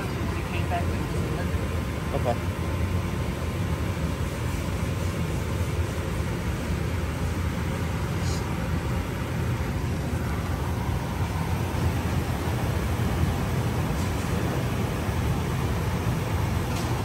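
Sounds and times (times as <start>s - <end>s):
gas furnace rumbling: 0.0s - 17.0s.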